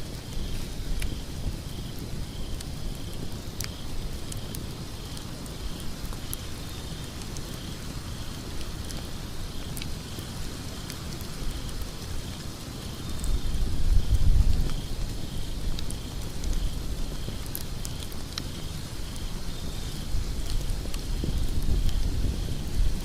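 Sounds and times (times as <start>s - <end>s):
fire rumbling and hissing: 0.0s - 23.0s
logs crackling and popping: 0.0s - 23.0s.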